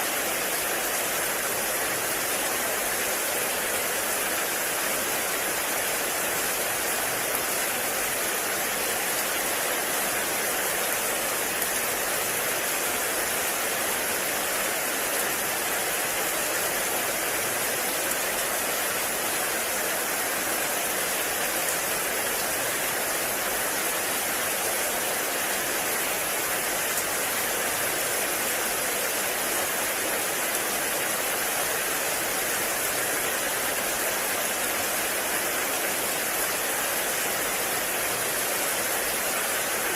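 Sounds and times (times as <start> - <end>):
heavy rain on forest: 0.0 - 39.9.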